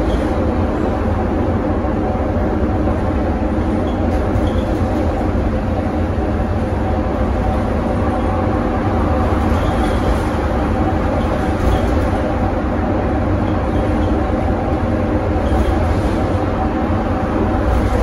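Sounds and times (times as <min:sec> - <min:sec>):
road and drivetrain rumble: 0:00.0 - 0:18.0.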